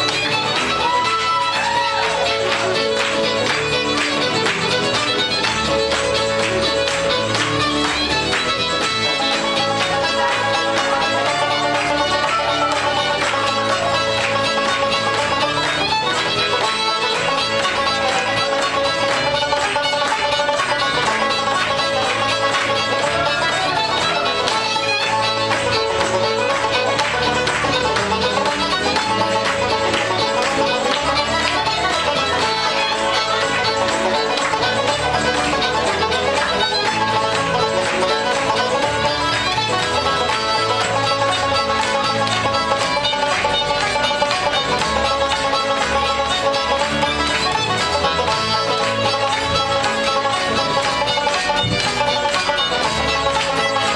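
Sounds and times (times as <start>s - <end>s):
banjo: 0.0s - 53.9s
fiddle: 0.0s - 53.9s.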